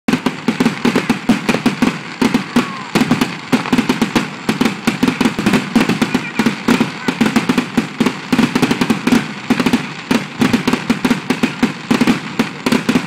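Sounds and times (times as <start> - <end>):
fireworks crackling pops: 0.1 - 13.0.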